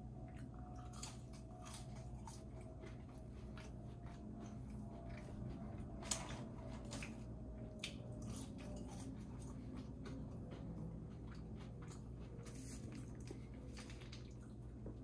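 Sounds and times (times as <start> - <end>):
chewing and biting food: 0.0 - 15.0.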